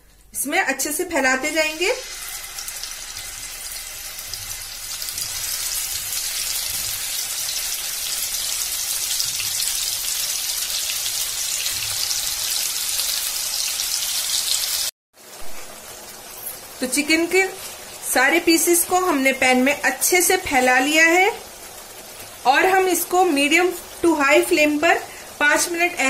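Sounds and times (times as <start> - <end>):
chicken sizzling in hot oil: 1.2 - 26.0.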